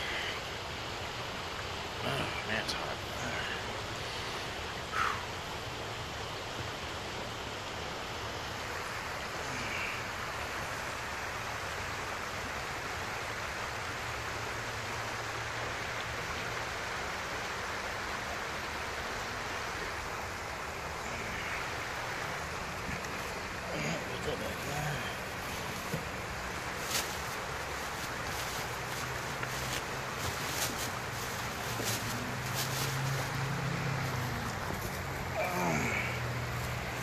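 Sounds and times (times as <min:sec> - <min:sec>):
rushing creek water: 0:00.0 - 0:37.0.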